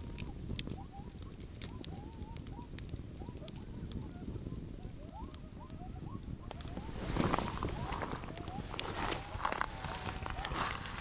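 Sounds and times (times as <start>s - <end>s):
campfire crackling and popping: 0.0s - 11.0s
distant coyotes yipping and howling: 0.0s - 11.0s.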